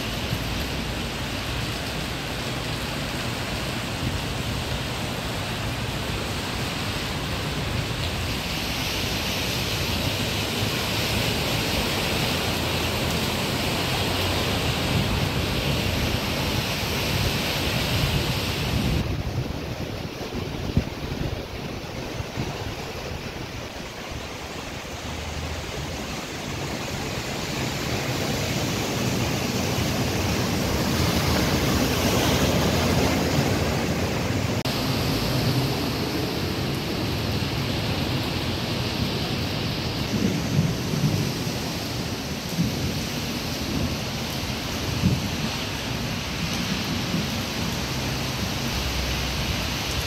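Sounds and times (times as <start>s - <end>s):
cars spraying through water: 0.0s - 50.0s
rain: 0.0s - 50.0s.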